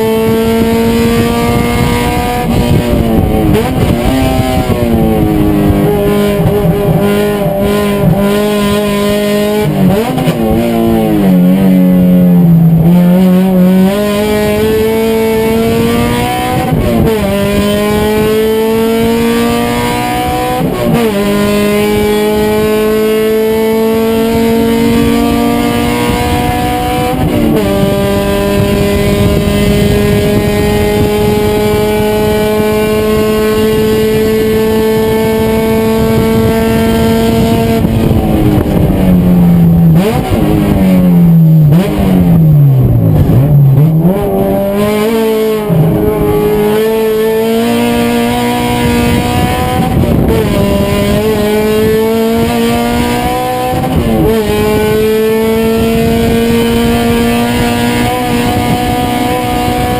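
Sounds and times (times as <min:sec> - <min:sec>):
race car engine at full throttle: 0:00.0 - 0:59.9.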